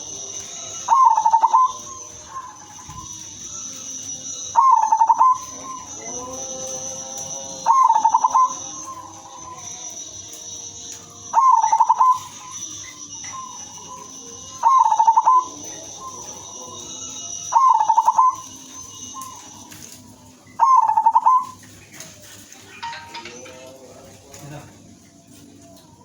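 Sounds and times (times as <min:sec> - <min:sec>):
steady high whine: 0:00.0 - 0:21.6
dove cooing: 0:00.0 - 0:22.6.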